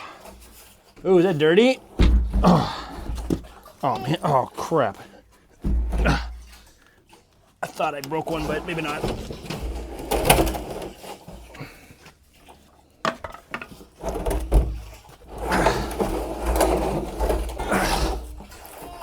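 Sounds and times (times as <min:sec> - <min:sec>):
plastic rattling and scraping: 0:00.0 - 0:19.0
plastic knocks and clunks: 0:00.2 - 0:04.7, 0:05.3 - 0:06.8, 0:07.6 - 0:11.8, 0:13.0 - 0:19.0.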